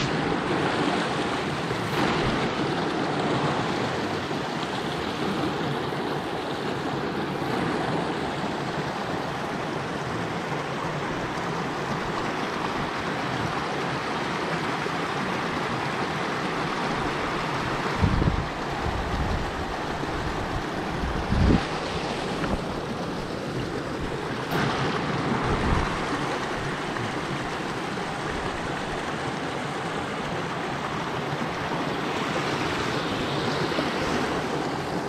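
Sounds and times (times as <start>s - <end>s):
stream rushing over stones: 0.0s - 35.0s.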